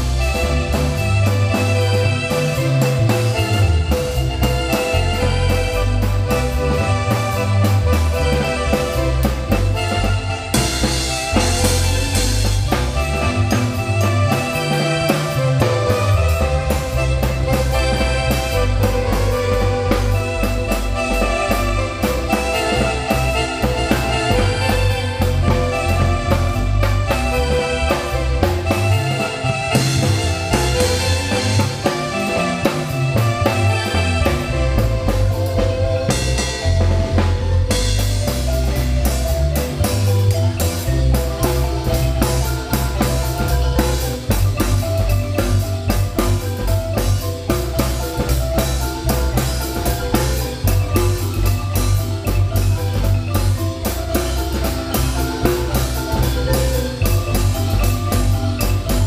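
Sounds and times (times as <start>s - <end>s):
drum kit steady beat: 0.0s - 59.0s
low bass line: 0.0s - 59.0s
marimba melody: 0.0s - 59.0s.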